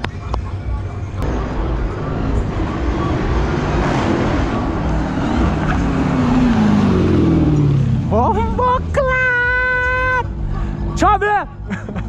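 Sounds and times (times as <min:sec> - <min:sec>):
car engine at full throttle: 0:01.2 - 0:12.0.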